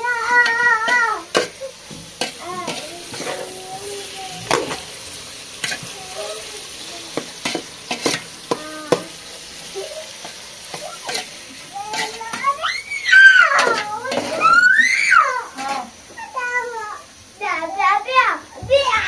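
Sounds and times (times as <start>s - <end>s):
meat and onions sizzling: 0.0s - 19.0s.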